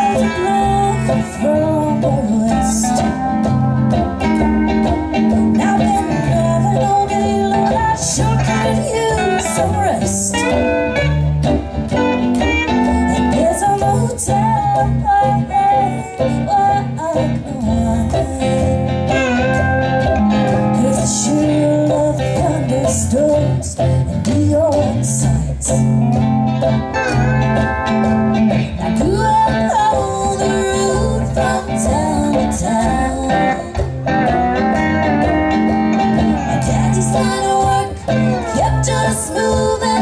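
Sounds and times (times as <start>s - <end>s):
woman singing: 0.0s - 3.6s, 4.2s - 11.0s, 12.7s - 19.6s, 20.3s - 26.0s, 28.6s - 33.9s, 36.2s - 40.0s
mandolin picked: 0.0s - 40.0s
upright bass notes: 0.0s - 40.0s.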